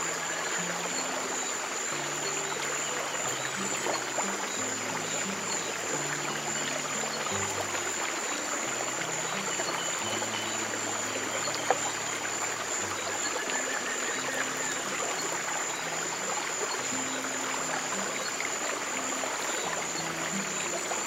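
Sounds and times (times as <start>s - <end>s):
low sustained music notes: 0.0s - 21.0s
stream water flowing: 0.0s - 21.0s.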